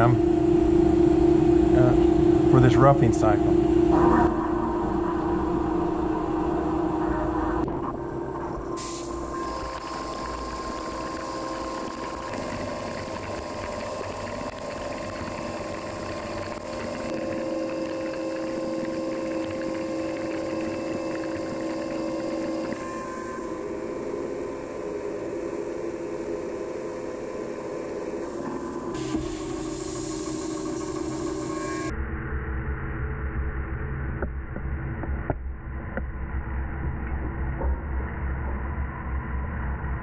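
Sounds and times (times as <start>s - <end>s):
machine tool hum with held tones: 0.0s - 40.0s.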